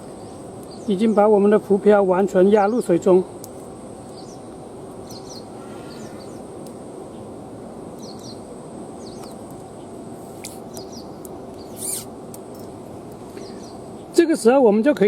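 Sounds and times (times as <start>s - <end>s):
small birds chirping: 0.0s - 14.5s
steady background hiss: 0.0s - 15.0s.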